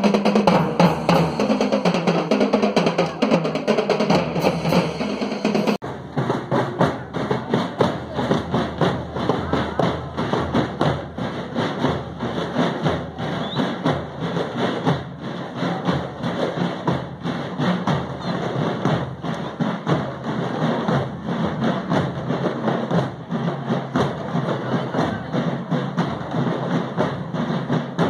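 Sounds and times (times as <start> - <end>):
marching drums: 0.0 - 28.0.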